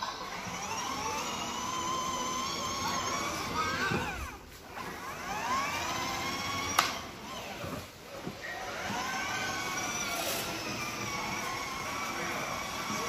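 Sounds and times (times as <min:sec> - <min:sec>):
toy car electric motors whining: 0:00.0 - 0:13.0.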